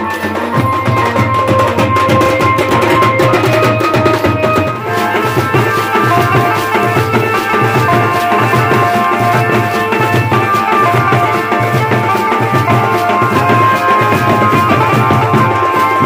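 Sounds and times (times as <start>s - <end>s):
brass band horns playing melody: 0.0s - 16.0s
steady drum beat: 0.0s - 16.0s.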